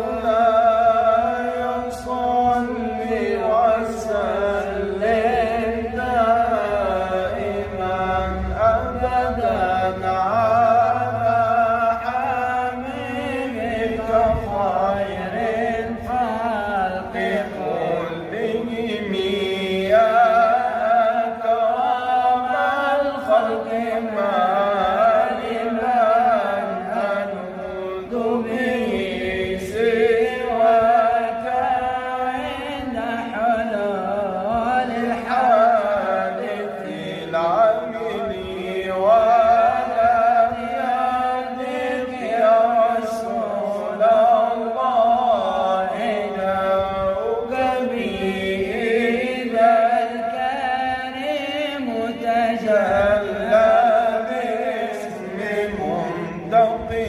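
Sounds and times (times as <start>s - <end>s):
man chanting devotional song: 0.0s - 57.0s.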